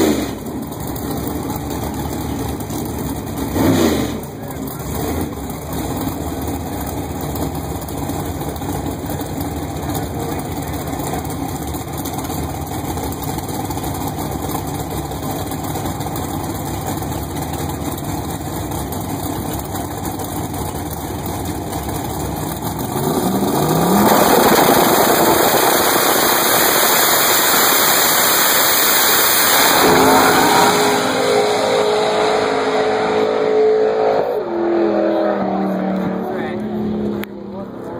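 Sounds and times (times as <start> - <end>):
race car accelerating: 0.0 - 37.9
race car engine idling: 0.1 - 32.7.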